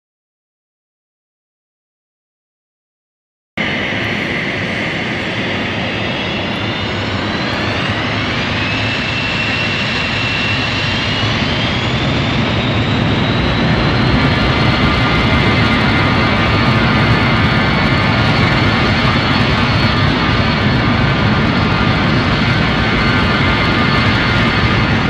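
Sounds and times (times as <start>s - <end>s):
high-pitched whine: 3.6s - 25.0s
jet engines spooling up: 3.6s - 25.0s.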